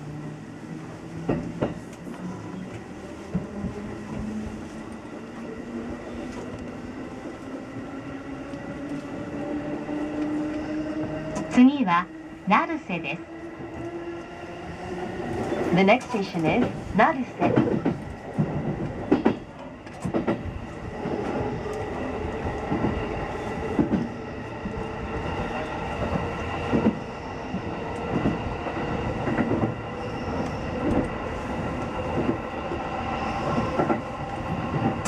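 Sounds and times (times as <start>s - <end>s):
train interior rumble: 0.0s - 35.0s.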